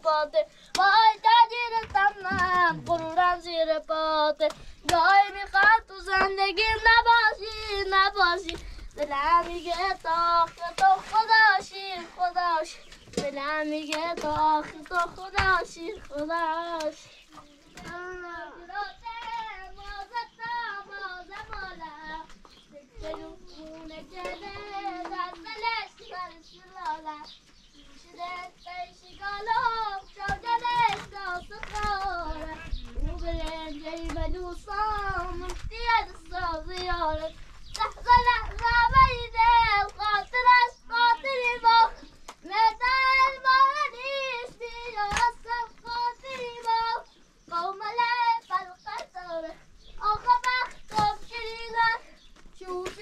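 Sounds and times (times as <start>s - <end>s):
child singing unaccompanied: 0.0s - 53.0s.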